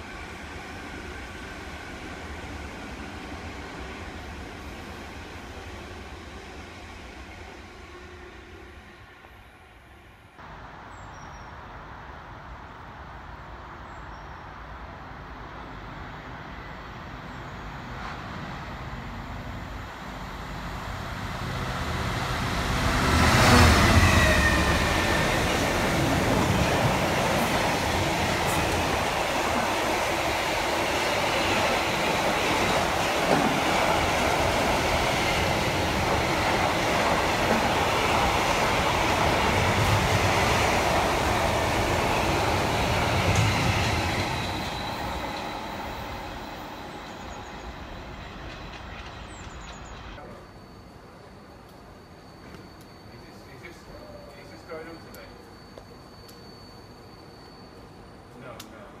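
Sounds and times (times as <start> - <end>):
diesel locomotive passing: 0.0 - 59.0
distant freight train passing: 0.0 - 59.0.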